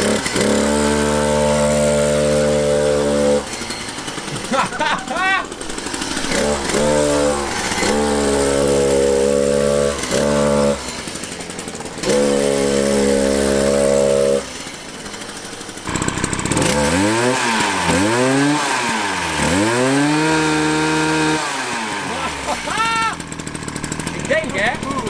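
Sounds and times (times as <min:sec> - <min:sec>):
small two-stroke engine revving: 0:00.0 - 0:25.0.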